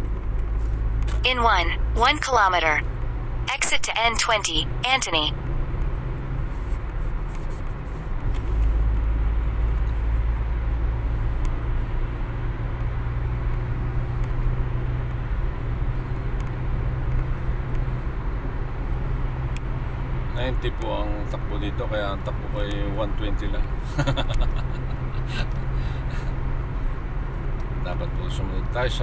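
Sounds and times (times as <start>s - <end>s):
car interior road noise: 4.6s - 29.0s.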